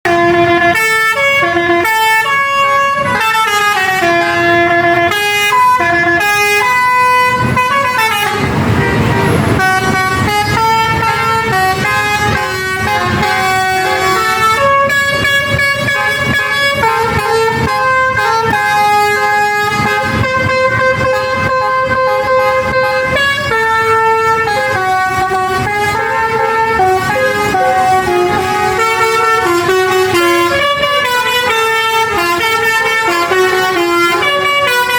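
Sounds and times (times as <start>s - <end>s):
multi-trumpet musical horn: 0.0s - 34.9s.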